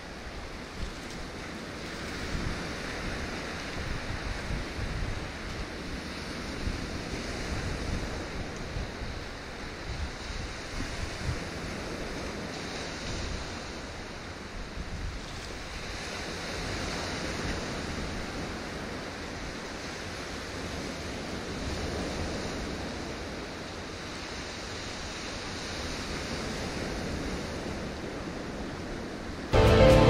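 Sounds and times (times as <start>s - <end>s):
wind rumble on microphone: 0.0s - 29.6s.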